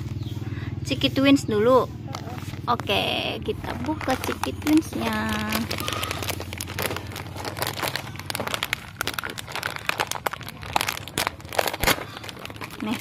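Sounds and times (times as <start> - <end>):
plastic snack packet crinkling: 2.1 - 13.0.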